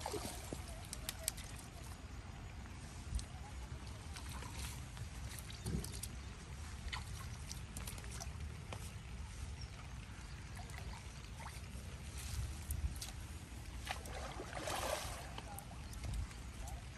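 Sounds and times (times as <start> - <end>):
faint trickling water: 0.0 - 16.9.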